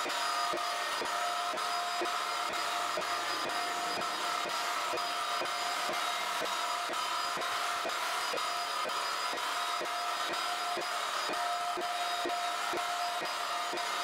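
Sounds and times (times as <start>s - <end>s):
floor polisher motor whining: 0.0s - 14.0s.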